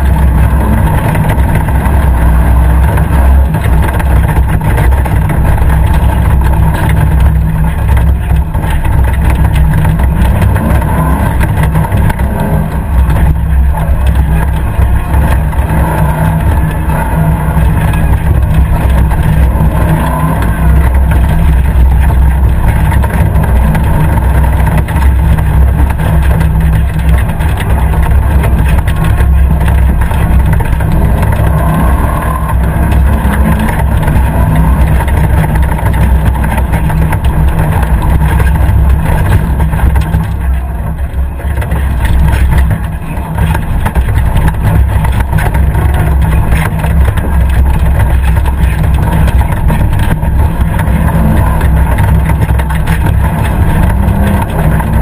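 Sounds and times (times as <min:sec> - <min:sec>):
engine running hard: 0:00.0 - 0:55.0.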